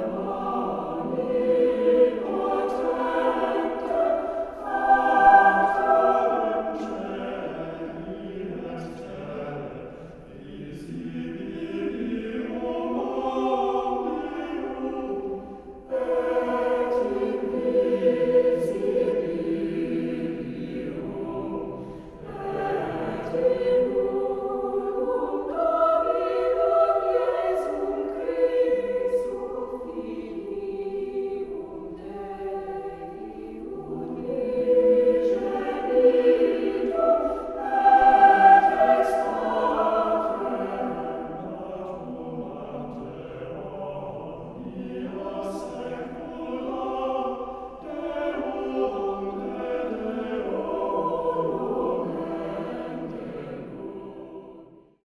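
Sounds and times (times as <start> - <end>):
choir singing sustained chords: 0.0 - 55.0.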